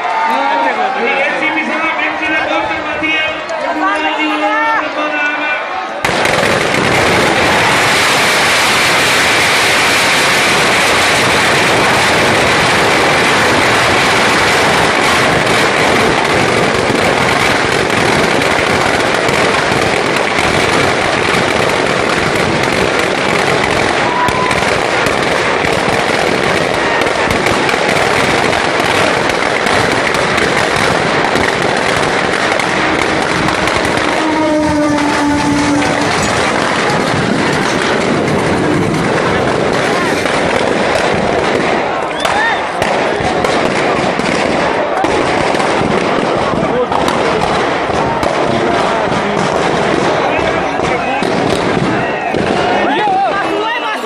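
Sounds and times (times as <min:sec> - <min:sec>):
firecrackers banging: 0:00.0 - 0:54.0.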